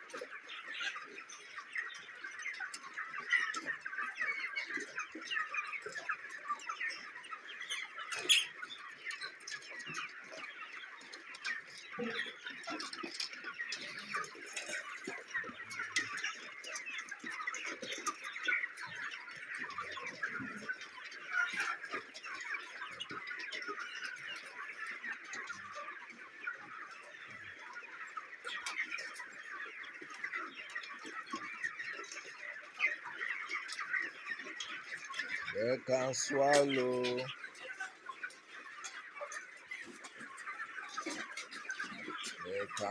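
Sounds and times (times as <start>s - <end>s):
chickens peeping and clucking: 0.0s - 42.9s.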